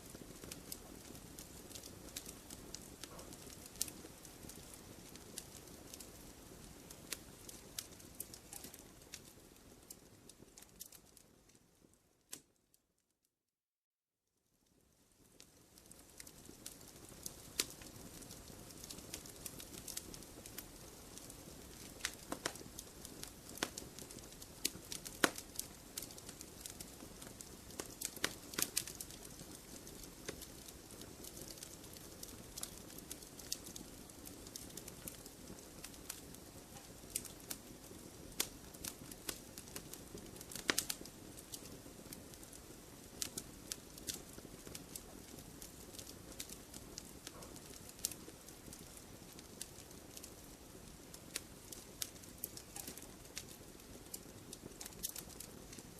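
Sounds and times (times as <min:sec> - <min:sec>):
wood popping and crackling: 0:00.1 - 0:11.2, 0:15.8 - 0:55.9.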